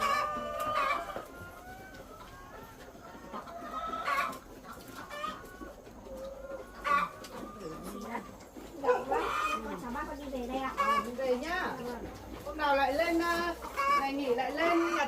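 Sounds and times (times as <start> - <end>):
hens clucking and calling: 0.0 - 15.0.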